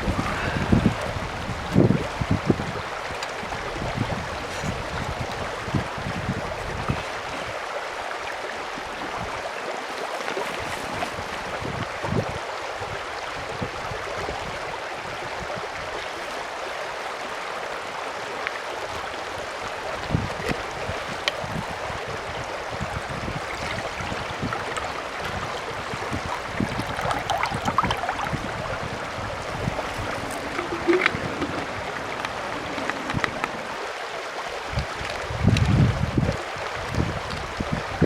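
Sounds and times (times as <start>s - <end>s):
mountain stream rushing: 0.0s - 38.0s.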